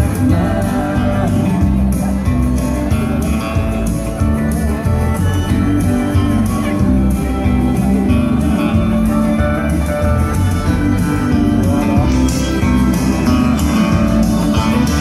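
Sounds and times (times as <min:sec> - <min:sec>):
country music over loudspeakers: 0:00.0 - 0:15.0.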